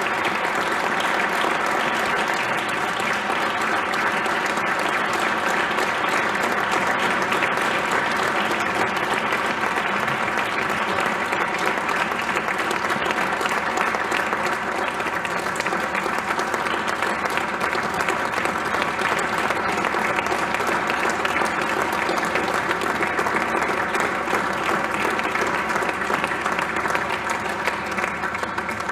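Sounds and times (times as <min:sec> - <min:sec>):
audience applauding: 0:00.0 - 0:28.9.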